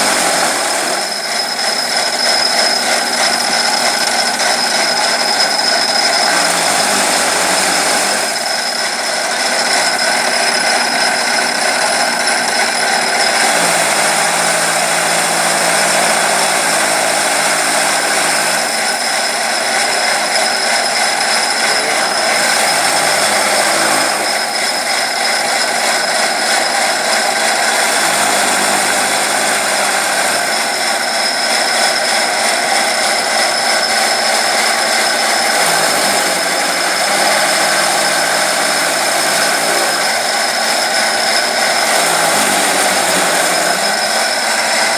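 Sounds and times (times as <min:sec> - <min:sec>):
chaff cutter running: 0:00.0 - 0:44.9.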